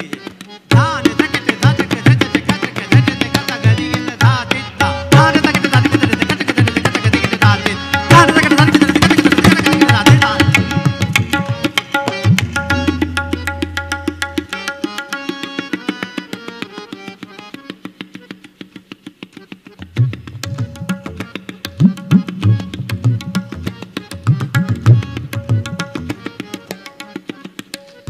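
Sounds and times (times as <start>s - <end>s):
fast tabla strokes: 0.0s - 28.0s
harmonium held notes: 0.0s - 28.0s.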